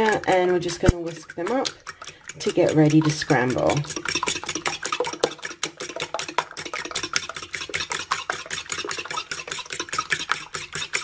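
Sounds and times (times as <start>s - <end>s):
fork whisking in a bowl: 0.0s - 11.0s.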